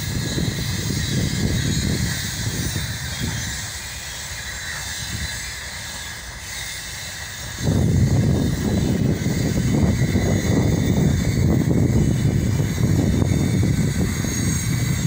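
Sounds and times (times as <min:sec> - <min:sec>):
steady hiss: 0:00.0 - 0:15.0
train wheels rumbling on rail: 0:00.0 - 0:15.0.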